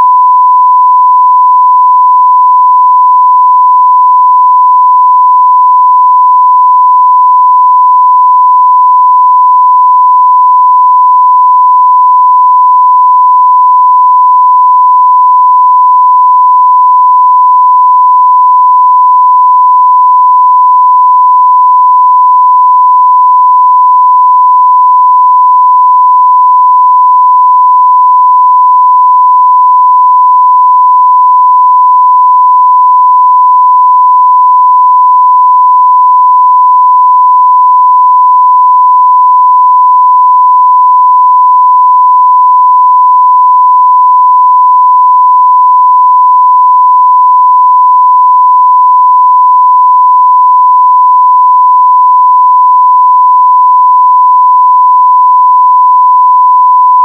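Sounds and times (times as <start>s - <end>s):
sine-wave test tone: 0.0s - 57.0s.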